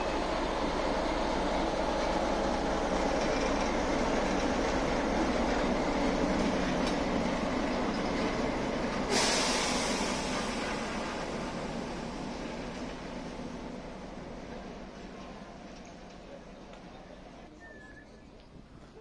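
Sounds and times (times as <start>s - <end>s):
locomotive diesel engine running: 0.0s - 17.5s.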